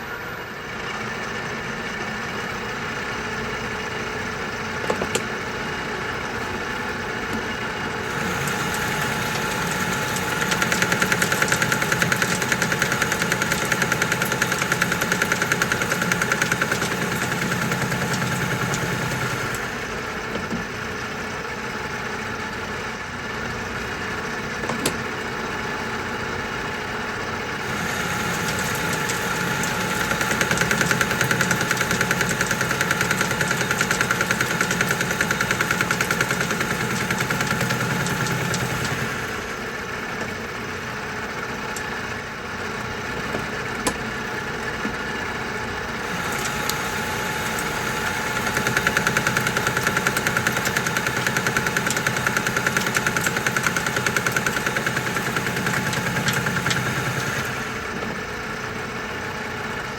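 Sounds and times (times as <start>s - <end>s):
lathe running idle: 0.0s - 59.9s
metal lathe cutting with knocking: 0.8s - 59.8s.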